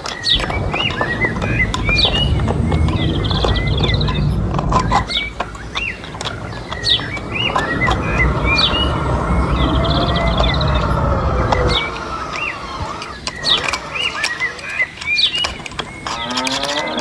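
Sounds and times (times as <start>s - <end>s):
low rumble: 0.0s - 14.2s
steady hum: 0.0s - 14.2s
clicks: 0.0s - 17.0s
small birds chirping: 0.0s - 17.0s.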